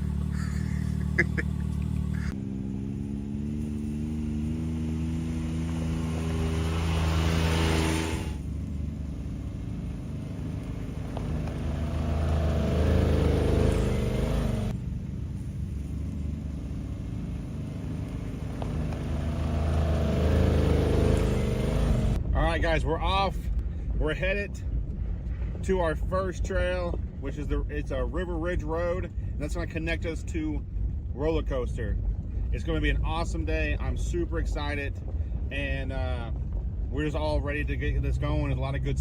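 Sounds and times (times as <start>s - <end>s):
vehicle engine accelerating: 0.0s - 22.8s, 26.8s - 39.0s.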